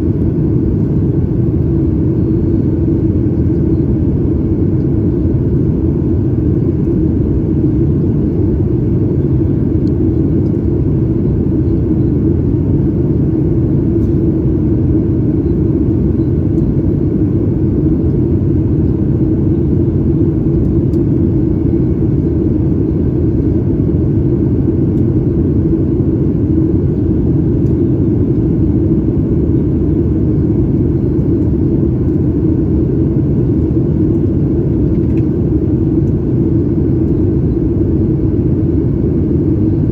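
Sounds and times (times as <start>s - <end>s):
jet engine rumble inside cabin: 0.0s - 39.9s.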